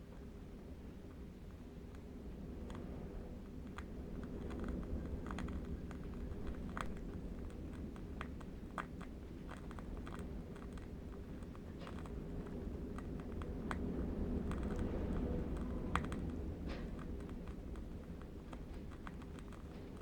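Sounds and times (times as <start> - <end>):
distant wind rumble: 2.3 - 20.0.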